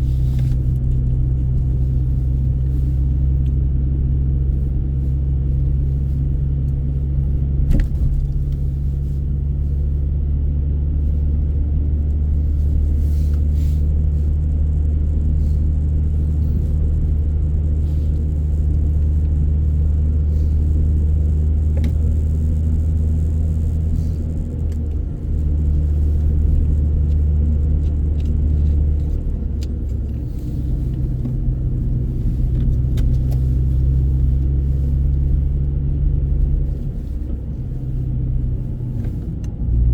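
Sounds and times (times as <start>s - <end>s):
car cabin road and engine drone: 0.0s - 39.9s.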